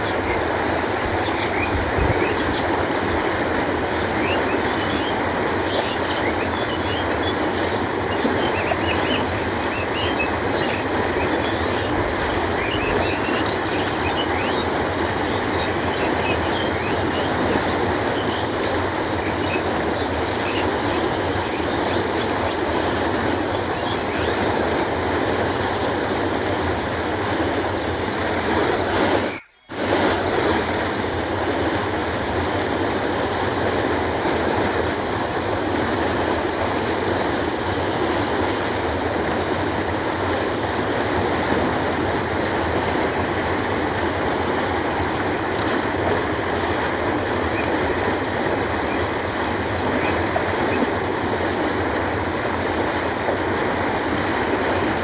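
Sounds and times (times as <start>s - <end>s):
water rushing along a canal: 0.0s - 55.0s.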